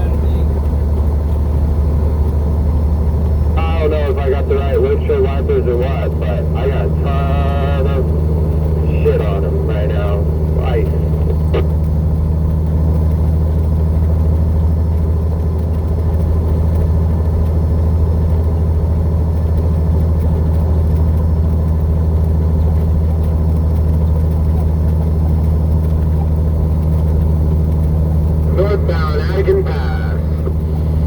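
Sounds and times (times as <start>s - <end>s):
truck diesel engine droning: 0.0s - 31.0s.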